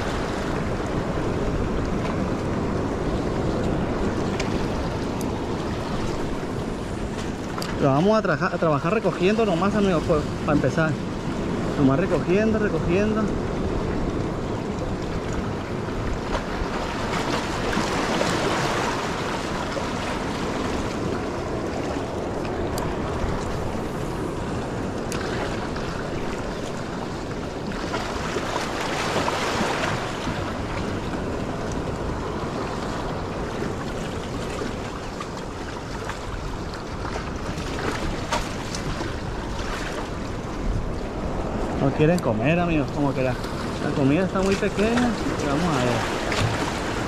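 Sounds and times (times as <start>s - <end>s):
waves washing against rocks: 0.0s - 47.0s
wind on microphone: 0.0s - 47.0s.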